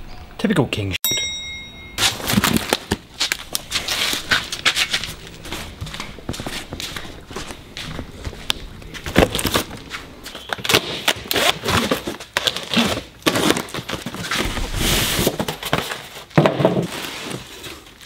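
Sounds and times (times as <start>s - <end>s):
plastic wrapping crinkling: 2.0s - 18.0s.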